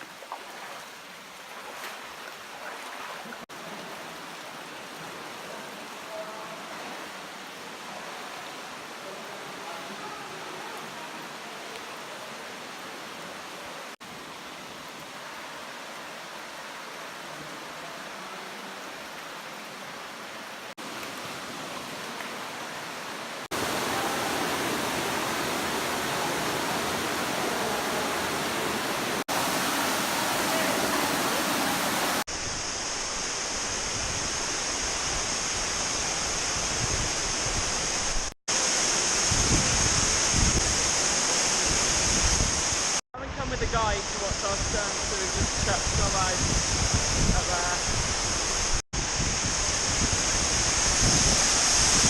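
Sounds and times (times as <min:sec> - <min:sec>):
rushing water: 0:00.0 - 0:52.0.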